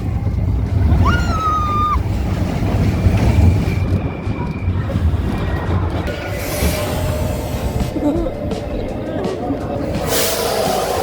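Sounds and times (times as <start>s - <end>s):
wind buffeting microphone: 0.0s - 10.2s
heavy low rumble: 0.0s - 11.0s.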